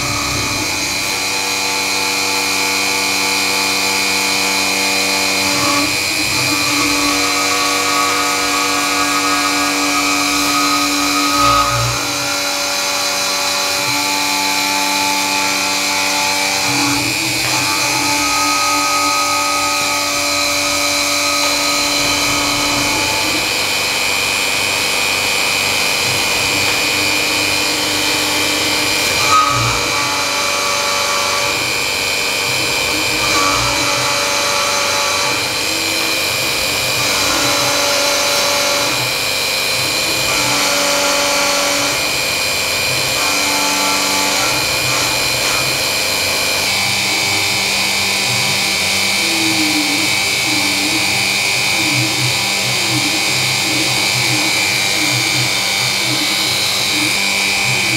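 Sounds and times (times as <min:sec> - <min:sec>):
milling machine whine: 0:00.0 - 0:57.9.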